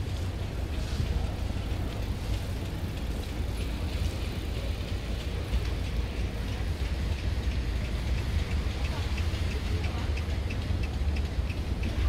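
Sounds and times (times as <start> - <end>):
low outdoor rumble: 0.0 - 12.0
faint light ticks: 0.6 - 12.0.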